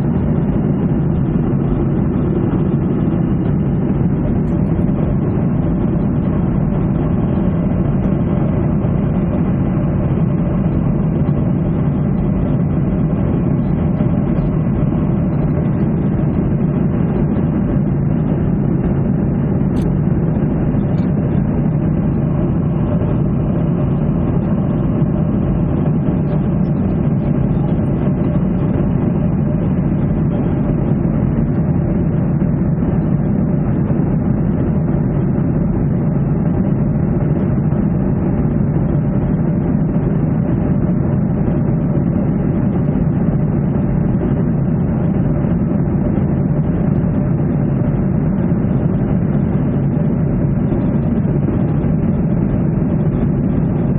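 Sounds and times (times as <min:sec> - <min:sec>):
jet engine cabin drone: 0:00.0 - 0:53.9.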